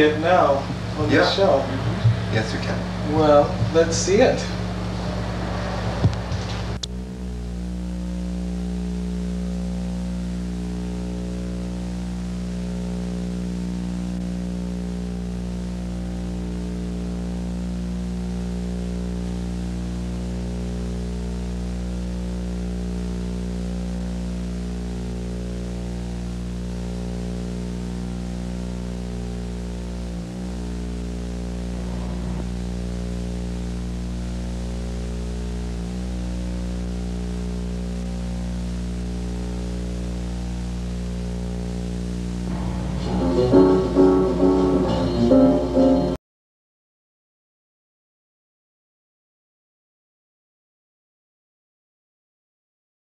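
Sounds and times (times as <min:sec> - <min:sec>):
buzzing drone: 0:00.0 - 0:46.2.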